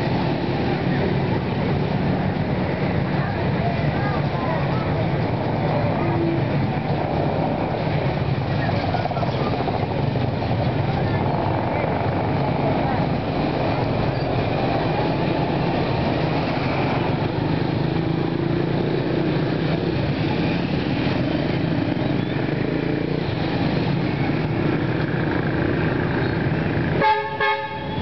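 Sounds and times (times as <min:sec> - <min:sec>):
motorcycle engines droning in traffic: 0:00.0 - 0:28.0.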